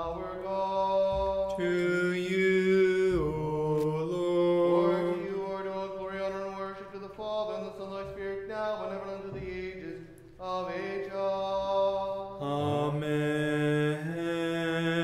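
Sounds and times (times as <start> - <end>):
lower voice singing: 0.0 - 15.0
unaccompanied liturgical chanting: 0.0 - 15.0.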